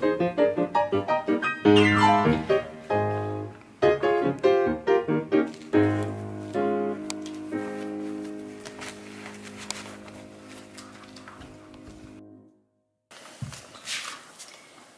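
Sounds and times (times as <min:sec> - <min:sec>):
piano music: 0:00.0 - 0:12.9.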